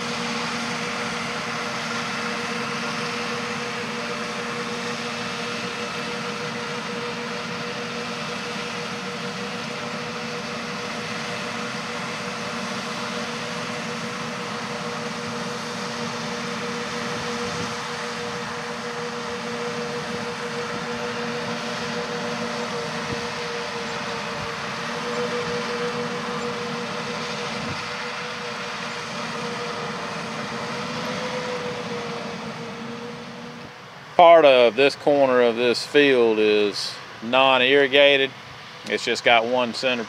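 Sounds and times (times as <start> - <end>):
tractor and combine droning: 0.0 - 40.0.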